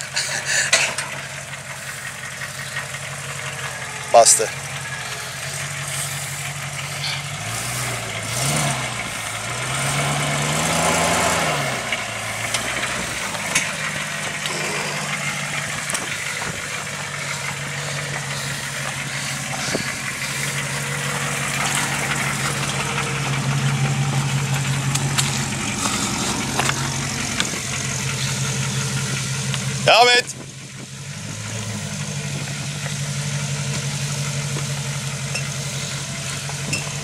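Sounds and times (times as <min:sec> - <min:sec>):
engine revving at low revs: 0:00.0 - 0:37.0.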